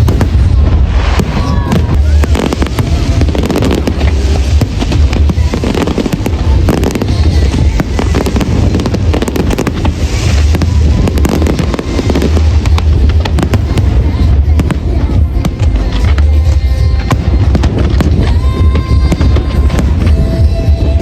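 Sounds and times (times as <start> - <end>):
fireworks bangs and crackles: 0.0 - 21.0
low rumble: 0.0 - 21.0.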